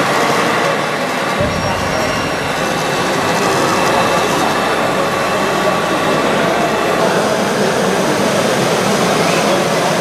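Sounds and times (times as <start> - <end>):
hum of a busy hall: 0.0 - 10.0.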